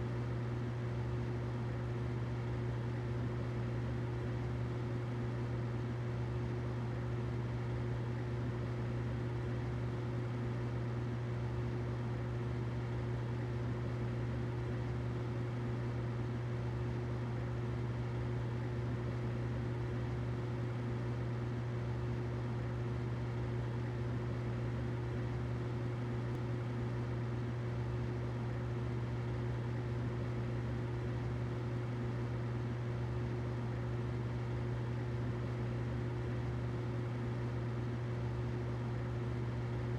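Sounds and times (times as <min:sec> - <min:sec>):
humidifier hiss: 0:00.0 - 0:39.9
humidifier hum: 0:00.0 - 0:39.9.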